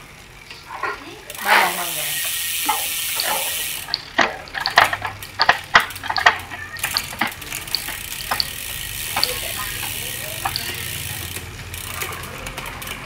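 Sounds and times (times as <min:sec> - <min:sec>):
bicycle chain clicking: 0:00.8 - 0:13.0
spinning wheel whirring: 0:01.3 - 0:13.0.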